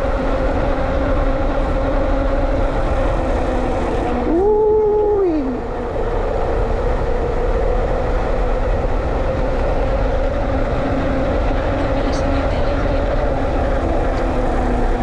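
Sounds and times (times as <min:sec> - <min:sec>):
faint motor hum: 0:00.0 - 0:15.0
wind and tyre noise: 0:00.0 - 0:15.0.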